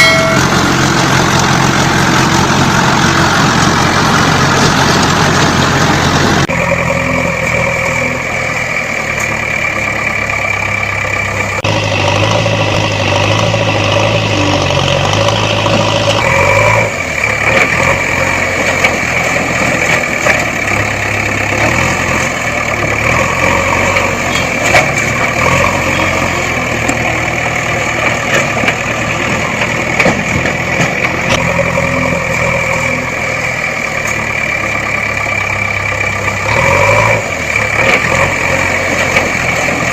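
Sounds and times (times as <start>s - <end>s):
farm machinery engines running: 0.0s - 39.9s.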